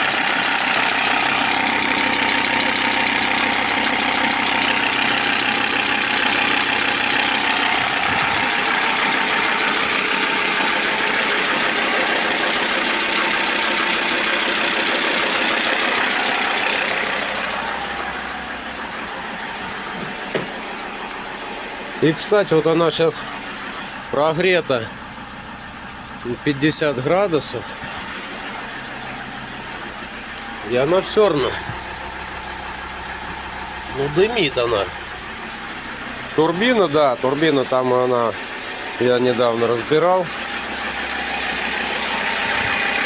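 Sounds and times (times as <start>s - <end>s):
diesel engine idling: 0.0s - 43.0s
engine ticking: 0.0s - 43.0s.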